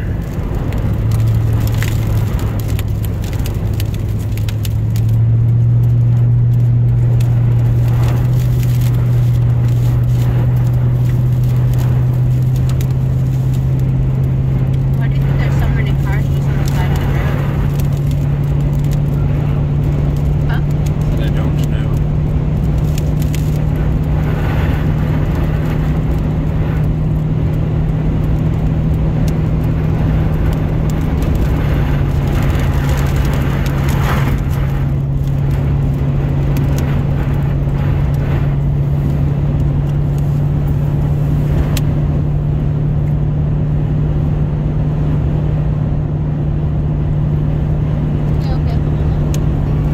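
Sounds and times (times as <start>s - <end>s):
road and engine drone in cab: 0.0s - 49.9s.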